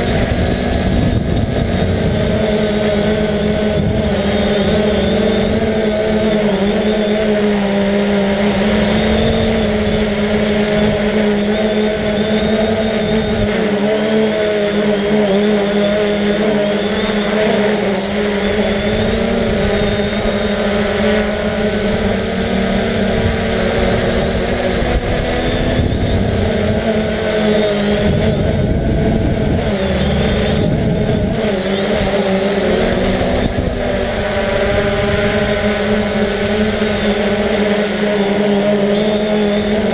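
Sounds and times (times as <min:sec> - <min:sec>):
drone propellers buzzing: 0:00.0 - 0:39.9
wind buffeting microphone: 0:00.0 - 0:39.9.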